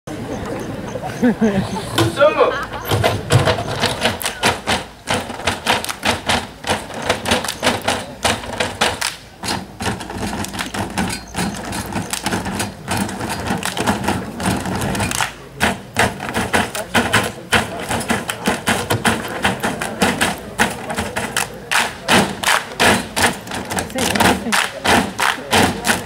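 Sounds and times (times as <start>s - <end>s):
tabletop percussion knocks and slaps: 3.0s - 26.0s.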